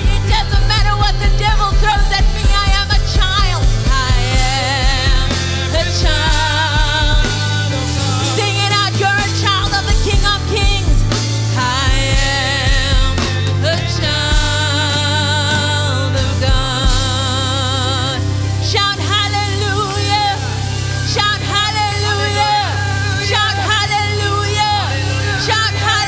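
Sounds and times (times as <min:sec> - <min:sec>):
gospel band playing: 0:00.0 - 0:26.0
person singing with vibrato: 0:00.0 - 0:26.0.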